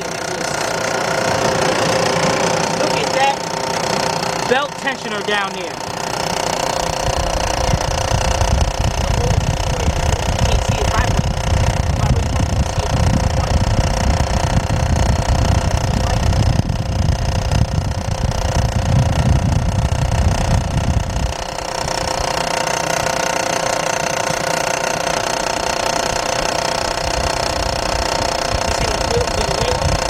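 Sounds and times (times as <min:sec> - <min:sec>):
belt tensioner rattling knock: 0:00.0 - 0:30.0
car engine idling: 0:00.0 - 0:30.0.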